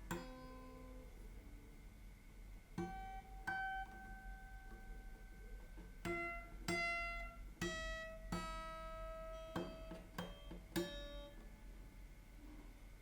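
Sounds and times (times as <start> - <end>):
fingerpicked acoustic guitar: 0.0 - 1.6, 2.7 - 11.6.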